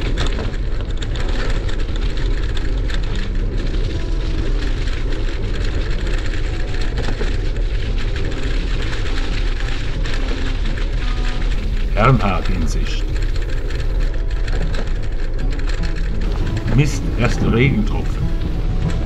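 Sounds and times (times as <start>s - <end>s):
tyres crackling over leaves: 0.0s - 19.0s
wind rumble on microphone: 0.0s - 19.0s.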